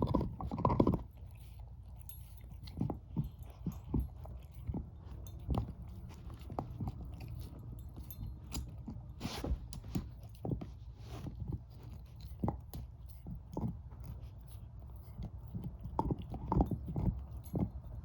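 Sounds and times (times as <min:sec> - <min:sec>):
dog chewing a bone: 0:00.0 - 0:18.0.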